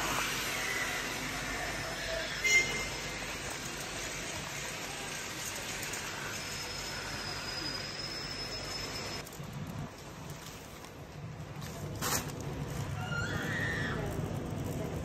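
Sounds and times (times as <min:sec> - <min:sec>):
shopping cart rolling: 0:01.6 - 0:15.0.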